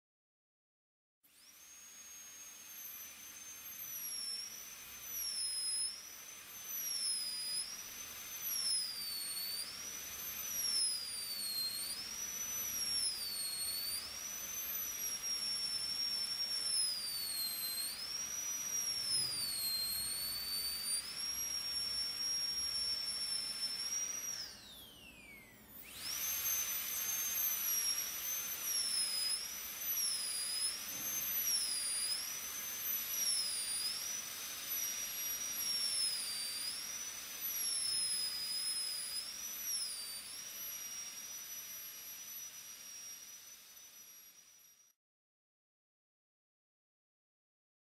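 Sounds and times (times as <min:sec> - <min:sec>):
dental drill whining: 0:01.3 - 0:45.0.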